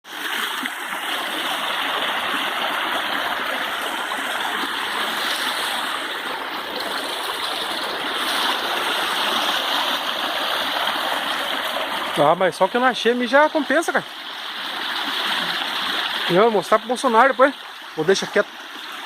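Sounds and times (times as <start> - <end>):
waterfall rushing: 0.1 - 18.8.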